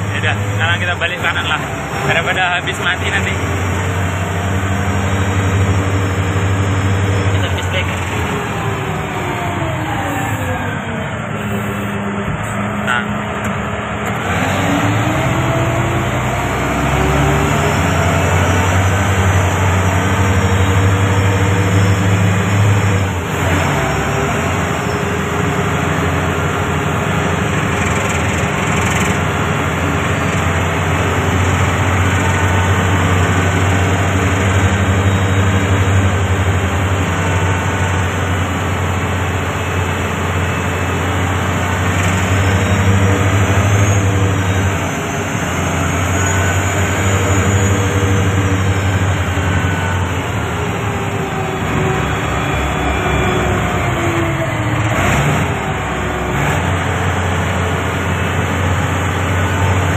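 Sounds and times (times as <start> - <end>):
truck diesel engine humming: 0.0 - 59.9.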